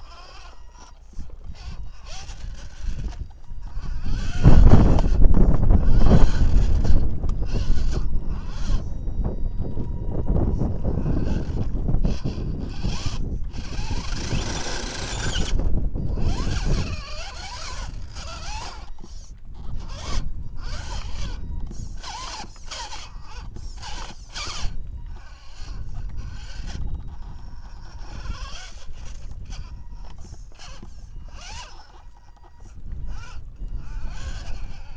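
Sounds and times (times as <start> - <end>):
electric motor and gears whining: 0.0 - 34.9.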